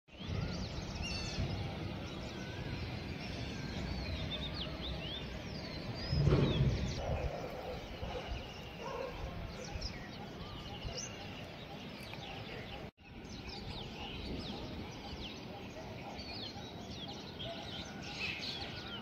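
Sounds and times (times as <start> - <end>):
outdoor background noise: 0.1 - 19.0
small birds chirping: 0.1 - 19.0.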